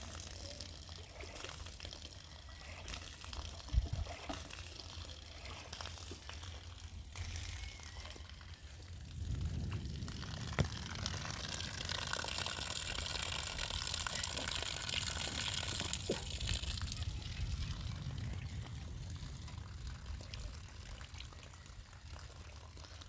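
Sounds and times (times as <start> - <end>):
water pouring: 0.0 - 23.0.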